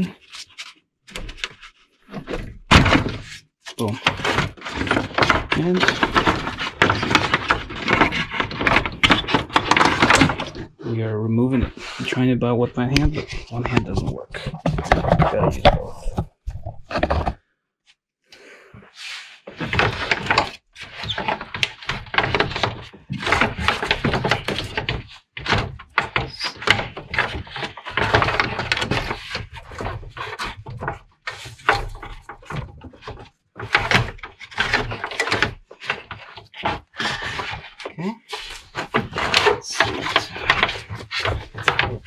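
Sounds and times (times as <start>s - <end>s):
plastic fan shroud knocking and scraping: 0.0s - 17.4s, 19.5s - 42.0s.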